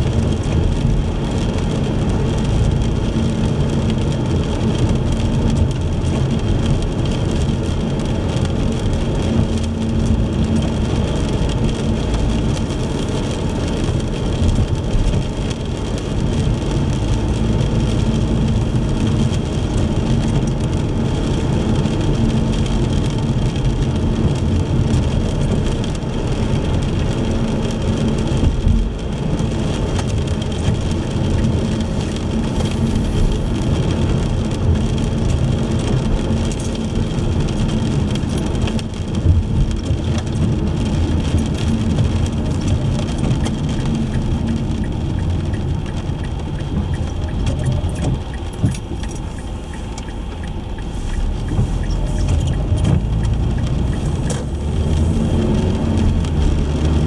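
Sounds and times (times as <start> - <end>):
engine and tyre rumble: 0.0 - 57.0
rain pattering on car: 0.0 - 57.0.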